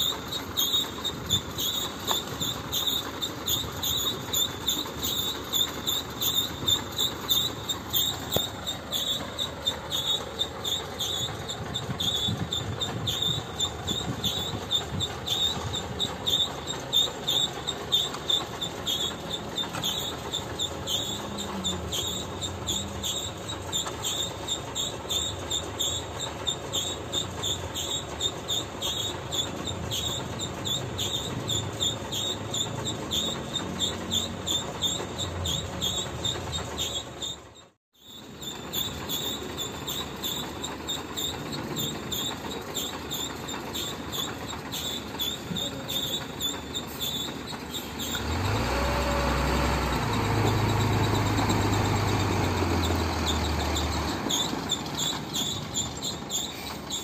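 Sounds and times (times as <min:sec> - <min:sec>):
diesel truck engine running: 0:00.0 - 0:57.0
rapid high-pitched chirping: 0:00.0 - 0:57.0.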